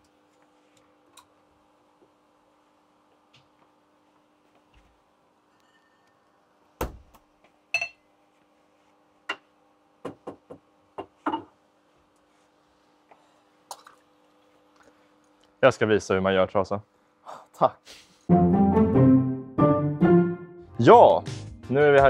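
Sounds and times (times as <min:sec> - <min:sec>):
faint steady hum: 0:00.0 - 0:18.3.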